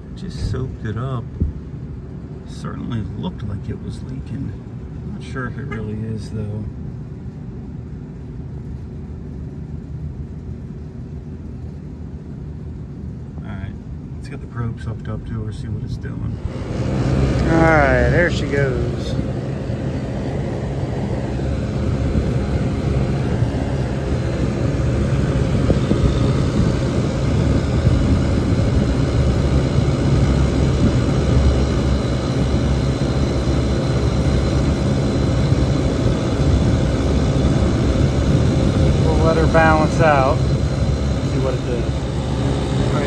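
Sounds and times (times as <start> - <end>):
air conditioner humming: 0.0 - 43.0.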